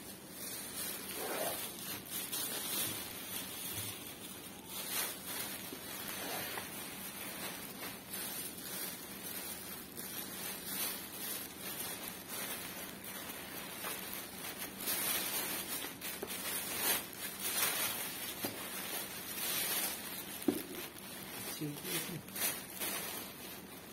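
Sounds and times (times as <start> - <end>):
plastic bag crinkling: 0.0 - 23.9.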